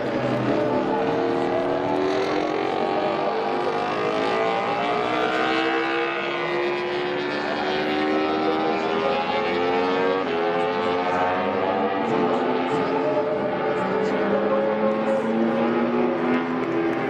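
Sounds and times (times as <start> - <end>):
racing engine accelerating: 0.0 - 17.0.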